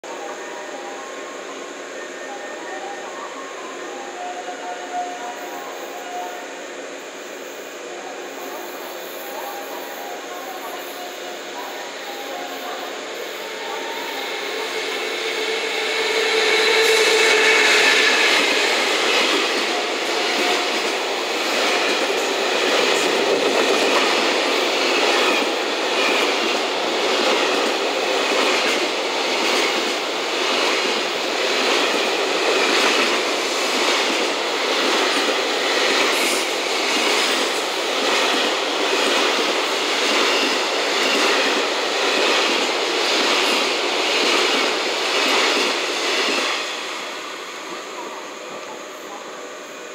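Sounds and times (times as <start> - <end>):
electric locomotive passing: 0.0 - 49.9.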